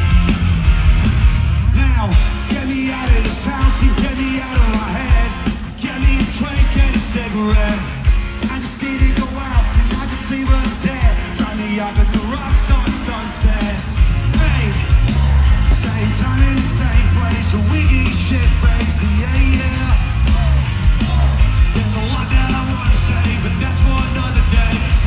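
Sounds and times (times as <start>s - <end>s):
live rock band: 0.0s - 25.0s
man singing: 1.7s - 25.0s.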